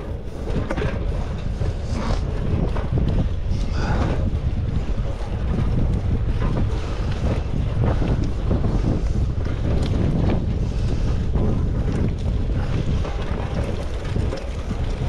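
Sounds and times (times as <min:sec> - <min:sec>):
bicycle ticks and rattles: 0:00.0 - 0:15.0
tyre on road noise: 0:00.0 - 0:15.0
wind buffeting microphone: 0:00.0 - 0:15.0.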